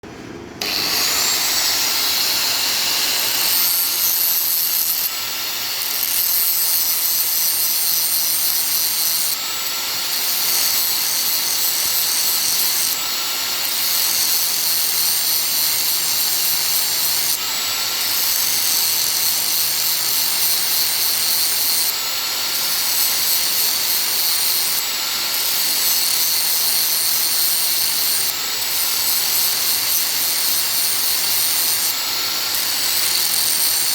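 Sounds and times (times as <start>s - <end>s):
power tool running with high hiss: 0.1s - 33.9s.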